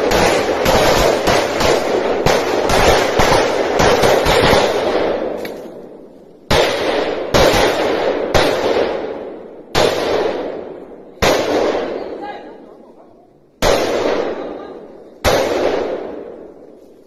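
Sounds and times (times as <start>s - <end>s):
gunshots with rolling echo: 0.0s - 12.9s, 13.5s - 16.9s.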